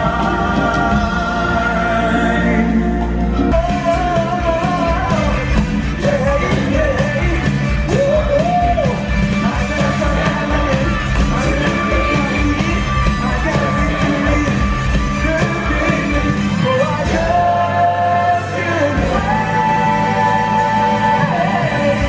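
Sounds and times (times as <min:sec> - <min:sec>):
amplified band with bass and drums: 0:00.0 - 0:22.0
people singing: 0:00.0 - 0:22.0.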